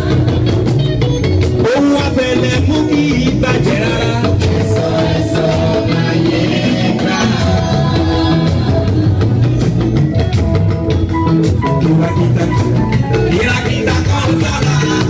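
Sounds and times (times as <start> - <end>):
gospel band with drums and guitar: 0.0 - 15.0.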